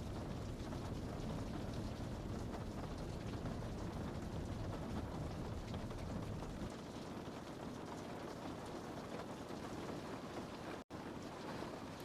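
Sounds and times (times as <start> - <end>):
rain on a window: 0.0 - 12.0.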